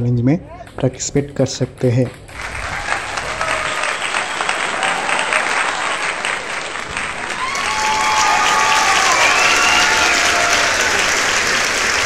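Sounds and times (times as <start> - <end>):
crowd clapping: 2.3 - 12.0.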